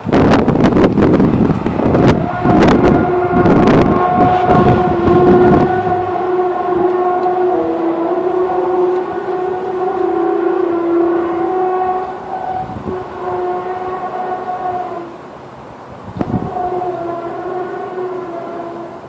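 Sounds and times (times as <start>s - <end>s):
horn-like droning tone: 1.0s - 15.3s, 16.1s - 19.0s.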